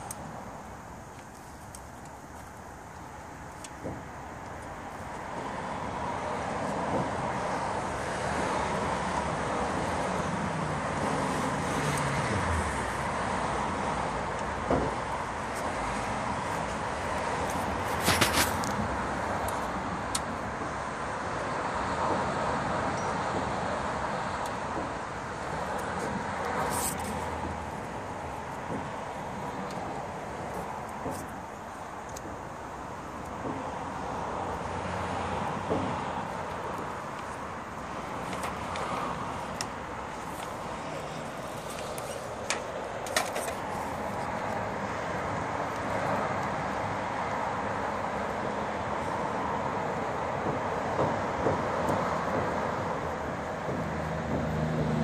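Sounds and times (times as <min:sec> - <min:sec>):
distant traffic rushing: 0:00.0 - 0:55.0
steady outdoor hiss: 0:00.0 - 0:55.0.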